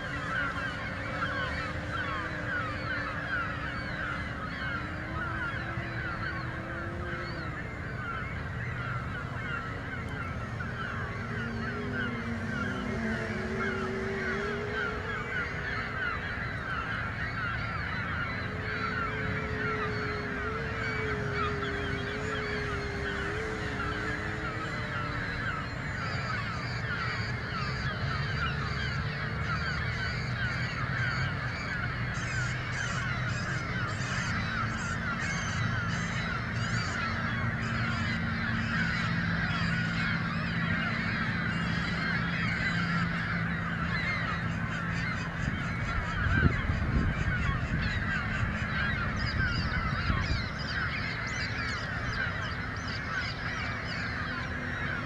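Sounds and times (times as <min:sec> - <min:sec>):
flock of birds honking: 0:00.0 - 0:55.0
steady low hum: 0:00.0 - 0:55.0.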